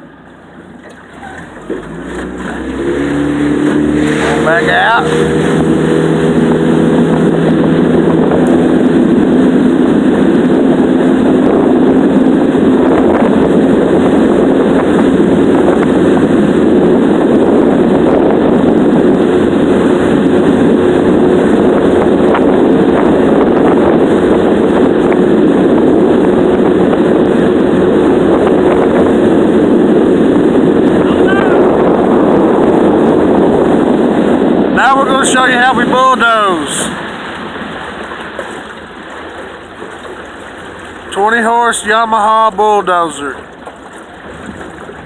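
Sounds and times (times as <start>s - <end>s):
outboard motor running: 0.0s - 45.0s
loud steady rushing noise: 1.5s - 43.4s.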